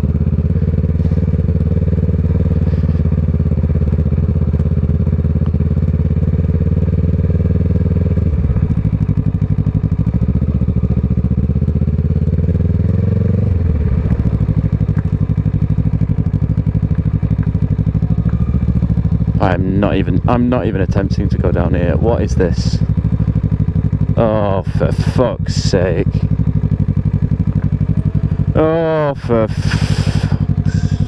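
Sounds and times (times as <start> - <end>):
motorcycle engine at low revs: 0.0 - 31.0.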